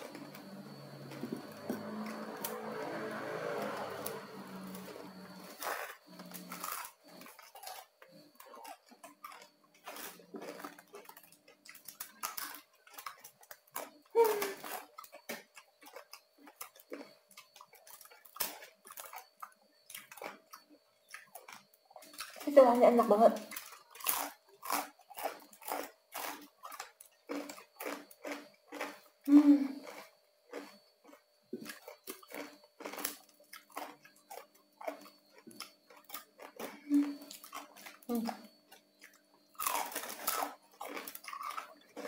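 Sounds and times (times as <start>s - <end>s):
crunchy chewing: 0.0s - 22.7s, 23.4s - 42.0s.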